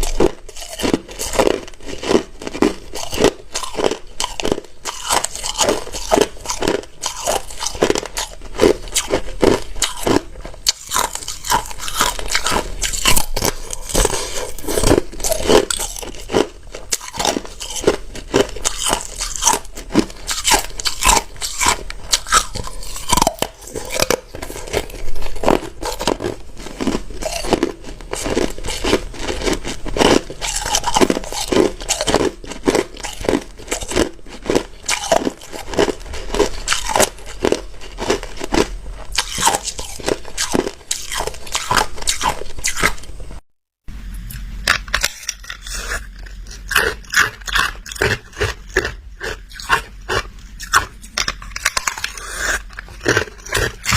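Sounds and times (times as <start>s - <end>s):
ice crunching in mouth: 0.0s - 43.1s, 44.3s - 53.9s.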